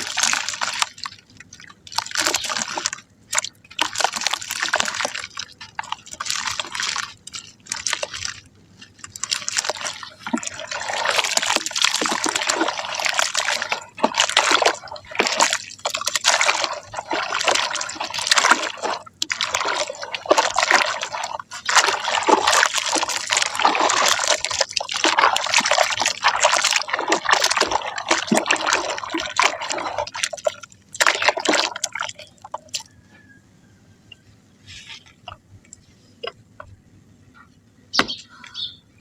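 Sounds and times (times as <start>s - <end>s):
water splashing over dry mud: 0.0s - 33.0s.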